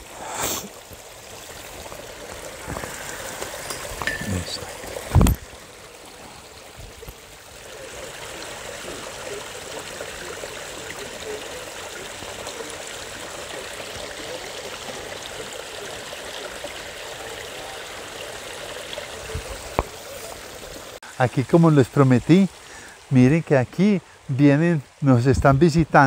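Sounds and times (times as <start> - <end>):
stream trickling over rocks: 0.0 - 26.0.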